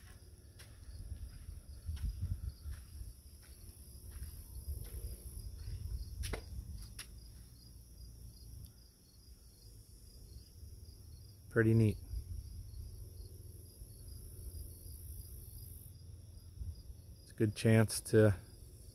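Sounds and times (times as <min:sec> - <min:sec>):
crickets and insects chirping: 0:00.0 - 0:18.9.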